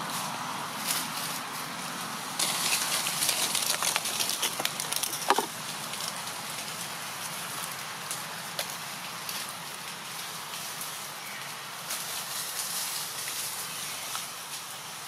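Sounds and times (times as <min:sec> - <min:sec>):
dry leaves rustling and crackling: 0:00.0 - 0:15.0.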